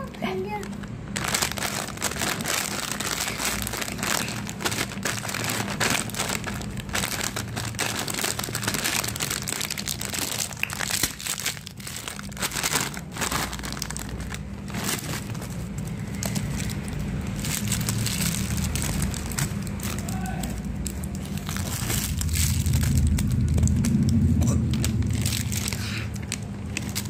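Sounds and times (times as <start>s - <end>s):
plastic bag crinkling: 0.0s - 27.0s
wrapped sweets poured out: 0.2s - 27.0s.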